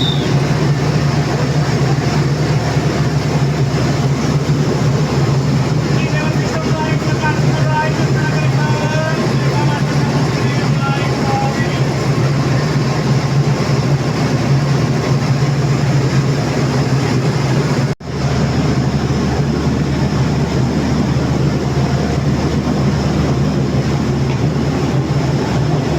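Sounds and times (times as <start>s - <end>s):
train engine hum: 0.0s - 25.9s
train rumble: 0.0s - 25.9s.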